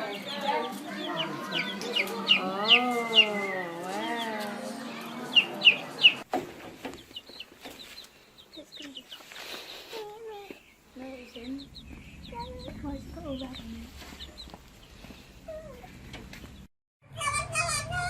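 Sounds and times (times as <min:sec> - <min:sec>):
chickens clucking: 0:00.0 - 0:16.6.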